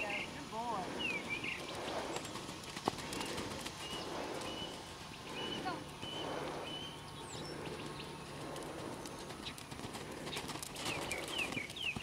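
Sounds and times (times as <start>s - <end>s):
bird chirping: 0.0s - 8.5s, 10.3s - 12.0s
horse hooves cantering on sand: 0.6s - 6.6s, 7.3s - 12.0s.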